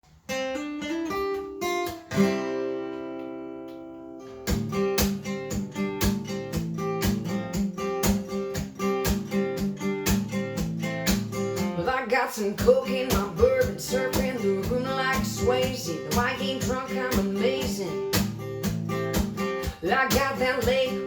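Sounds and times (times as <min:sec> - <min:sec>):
acoustic guitar strumming: 0:00.2 - 0:21.0.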